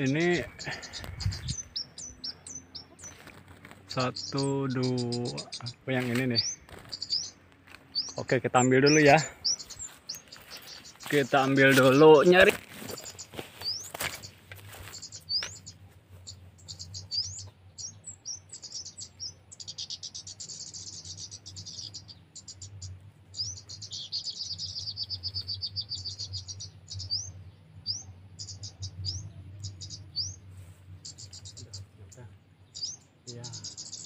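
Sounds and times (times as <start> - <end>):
buzzy bird trills: 0.0 - 34.0
small birds chirping: 0.0 - 34.0.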